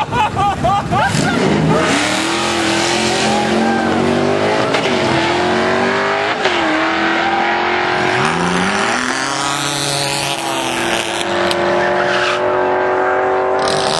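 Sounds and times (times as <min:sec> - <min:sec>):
engine running hard: 0:00.2 - 0:13.9.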